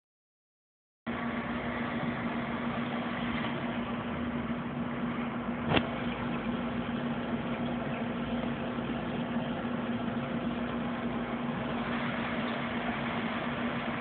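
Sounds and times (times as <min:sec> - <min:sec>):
aquarium pump humming: 0:01.1 - 0:14.0.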